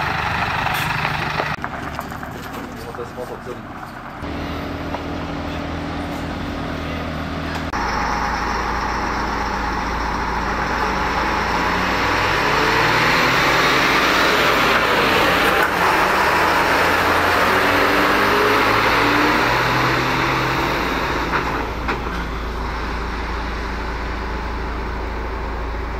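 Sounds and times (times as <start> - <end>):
fire engine driving past: 0.0 - 25.9.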